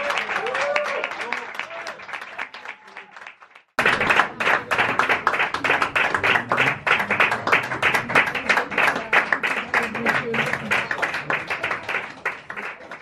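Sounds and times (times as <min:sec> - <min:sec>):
audience clapping: 0:00.0 - 0:13.0.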